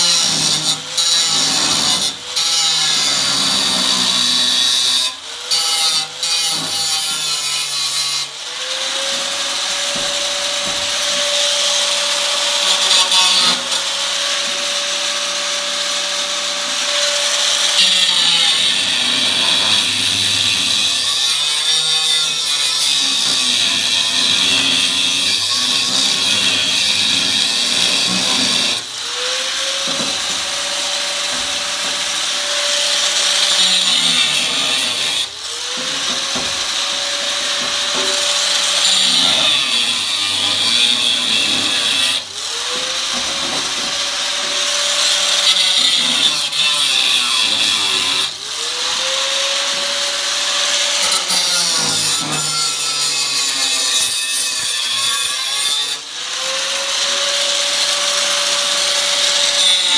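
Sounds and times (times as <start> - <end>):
power grinder on steel: 0.0 - 59.9.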